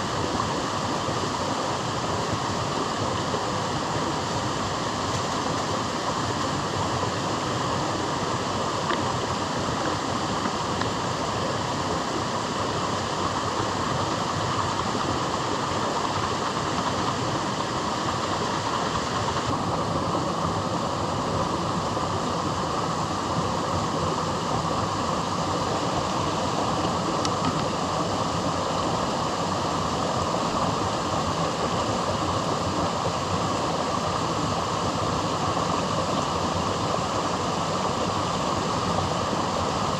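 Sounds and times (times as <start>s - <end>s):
strong wind and rain: 0.0s - 39.9s.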